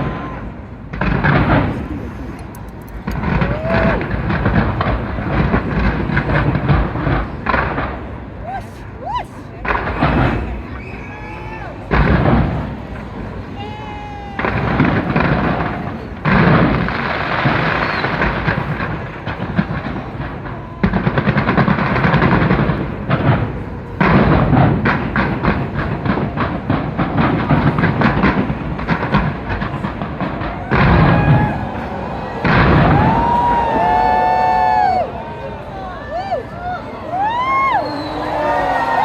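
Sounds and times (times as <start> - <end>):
fireworks booming and crackling: 0.0 - 39.0.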